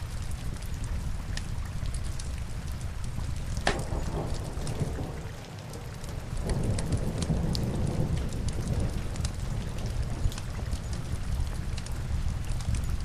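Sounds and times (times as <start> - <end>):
rain on window glass: 0.0 - 13.0
wood fire crackling: 0.0 - 13.0.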